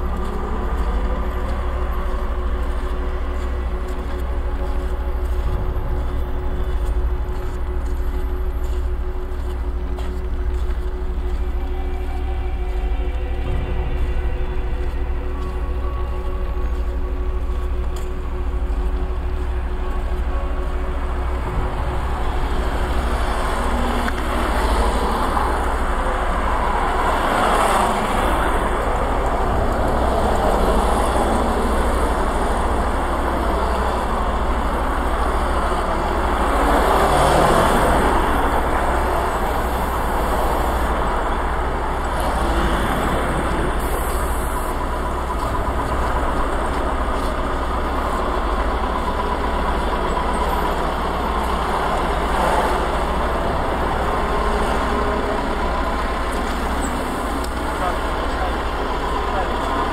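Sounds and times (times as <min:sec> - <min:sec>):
road noise: 0:00.0 - 0:59.9
vehicle engine rumble: 0:00.0 - 0:59.9.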